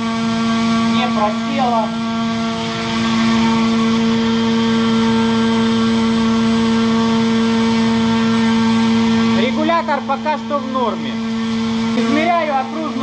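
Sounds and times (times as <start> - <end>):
electric motor spinning propeller: 0.0 - 13.0.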